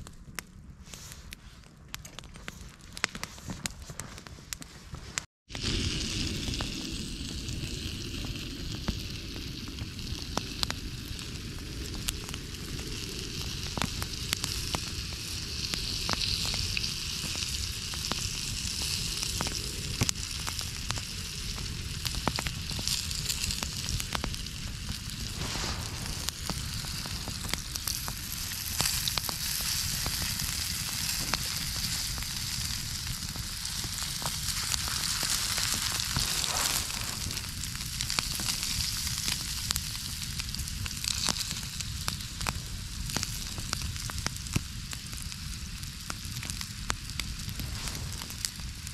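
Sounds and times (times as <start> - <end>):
campfire crackling: 0.0 - 48.9
sausages sizzling in a frying pan: 5.4 - 48.9.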